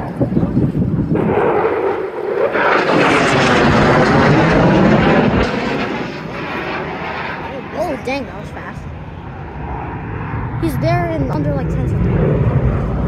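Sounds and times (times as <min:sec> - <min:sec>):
jet fighters roaring overhead: 0:00.0 - 0:13.0.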